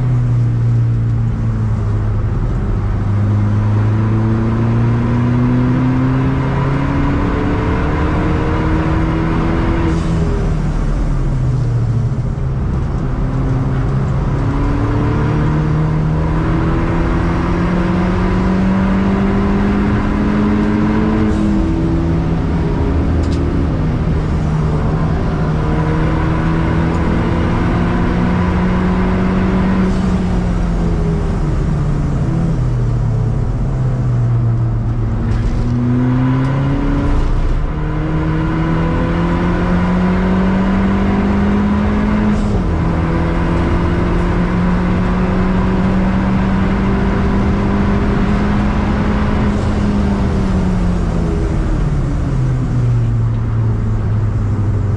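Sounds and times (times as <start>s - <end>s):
car engine accelerating: 0.0s - 54.9s
road and wind noise: 0.0s - 54.9s.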